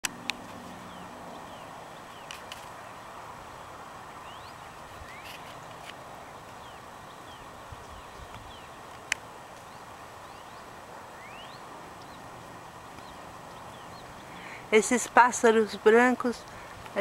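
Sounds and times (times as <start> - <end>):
background hiss: 0.0 - 17.0
small birds chirping: 0.2 - 17.0.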